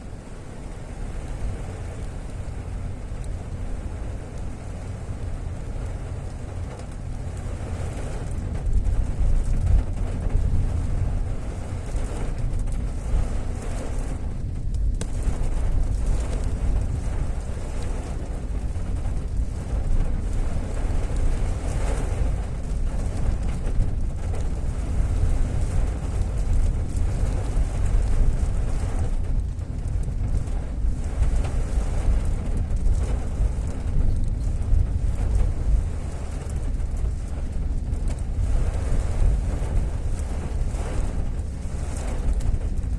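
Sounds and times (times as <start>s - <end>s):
heavy rain falling: 0.0s - 42.9s
loud low rumble: 0.0s - 42.9s
wind buffeting microphone: 0.0s - 42.9s.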